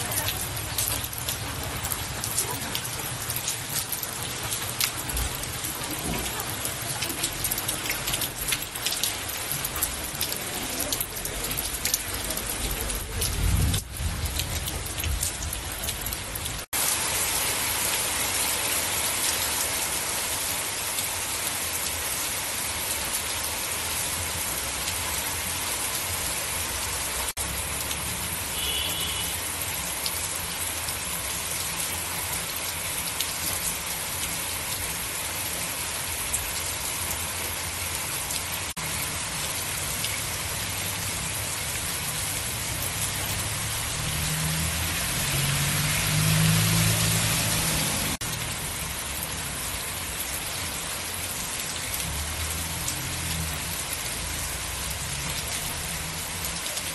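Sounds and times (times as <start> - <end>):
heavy rain on street: 0.0 - 56.9.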